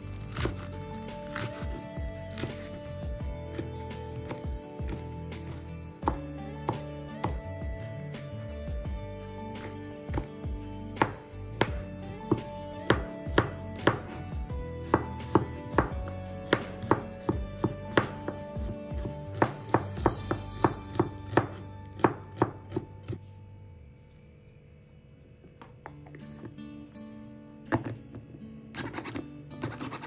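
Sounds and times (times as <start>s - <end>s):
faint background music: 0.0s - 30.0s.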